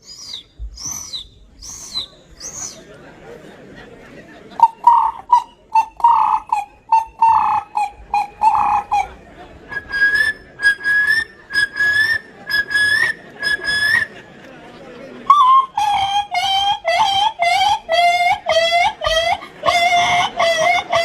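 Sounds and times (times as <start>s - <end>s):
whistled notes: 0.0s - 3.0s, 4.6s - 14.2s, 15.2s - 21.0s.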